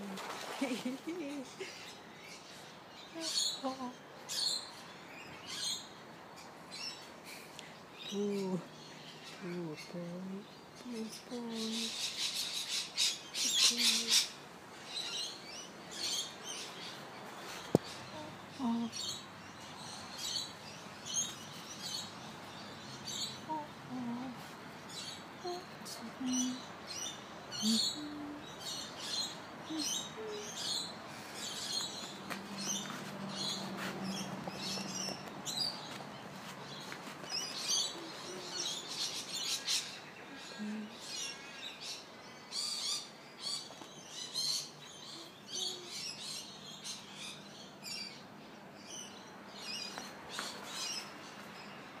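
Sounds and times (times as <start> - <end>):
songbirds chirping and singing: 0.1 - 52.0.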